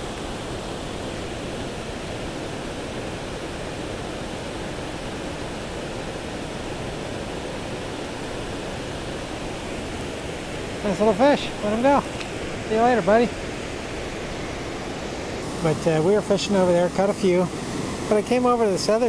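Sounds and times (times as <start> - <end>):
flowing river water: 0.0 - 19.0.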